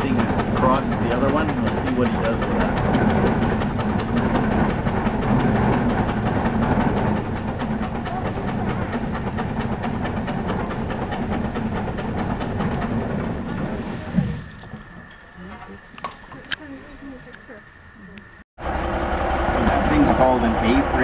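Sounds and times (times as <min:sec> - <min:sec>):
steam exhaust puffs: 0:00.0 - 0:17.6
steam winch hissing: 0:00.0 - 0:17.6.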